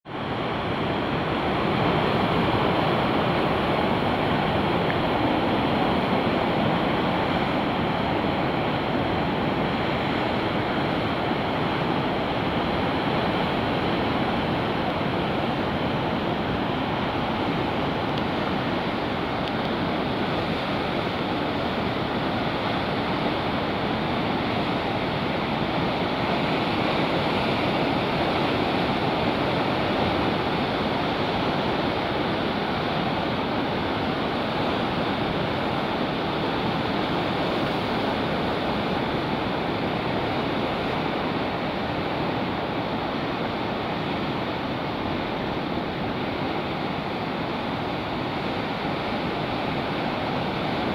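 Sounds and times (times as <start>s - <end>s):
muffled surf breaking on rocks: 0.1s - 50.9s.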